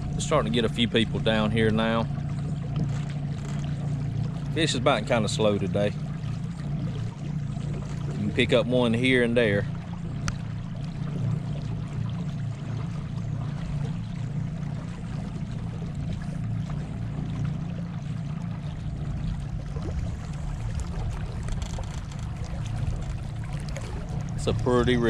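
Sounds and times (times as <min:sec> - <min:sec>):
boat motor humming: 0:00.0 - 0:25.0
water washing along hull: 0:00.0 - 0:25.0.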